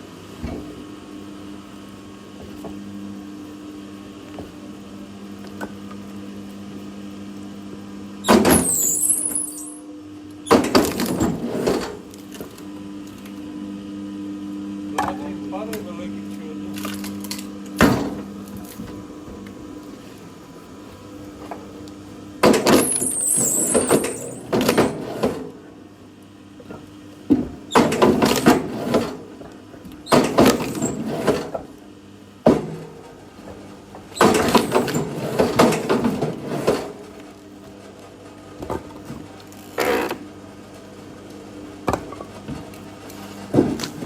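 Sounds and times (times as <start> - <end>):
log splitter machine hum: 0.0 - 44.0.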